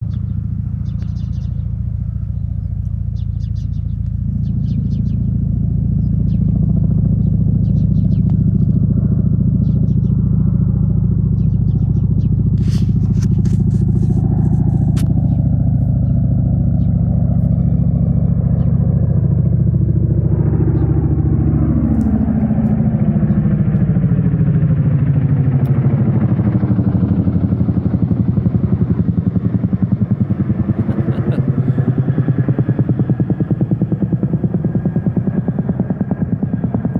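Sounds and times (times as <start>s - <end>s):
helicopter rotors beating: 0.0s - 36.9s
low engine drone: 0.0s - 36.9s.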